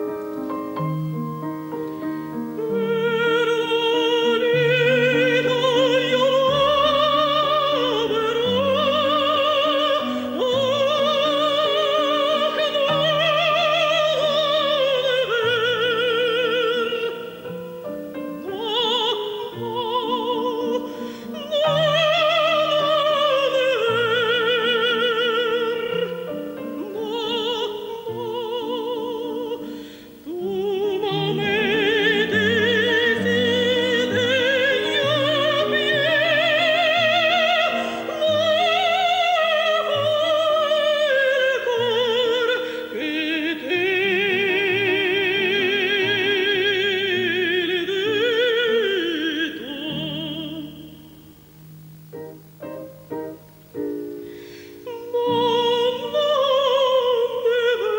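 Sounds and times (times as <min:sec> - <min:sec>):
piano accompaniment: 0:00.0 - 0:57.9
woman singing operatically: 0:02.5 - 0:51.5, 0:54.8 - 0:57.9.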